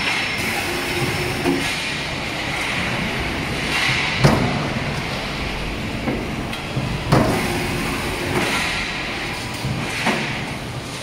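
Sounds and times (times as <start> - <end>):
sheet metal machine running: 0.0 - 11.0.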